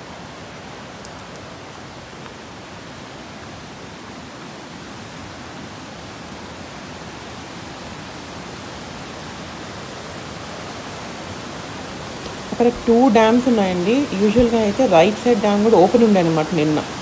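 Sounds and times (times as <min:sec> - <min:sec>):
water rushing through dam gate: 0:00.0 - 0:17.0.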